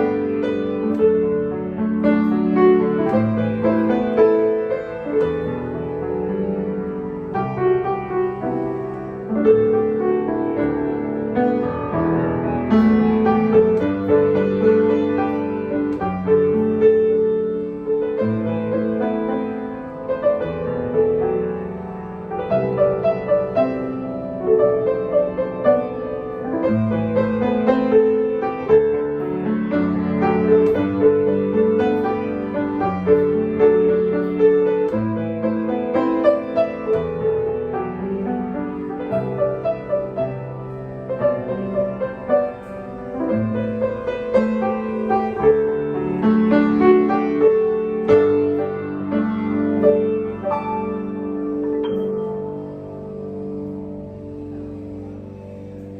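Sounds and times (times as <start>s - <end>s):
grand piano melody: 0.0s - 55.9s.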